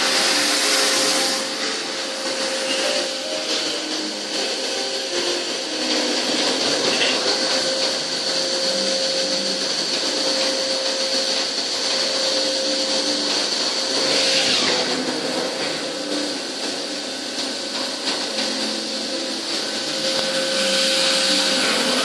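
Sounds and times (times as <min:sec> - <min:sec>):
lathe hissing whir with whine: 0:00.0 - 0:22.0
low machine hum: 0:00.0 - 0:22.0.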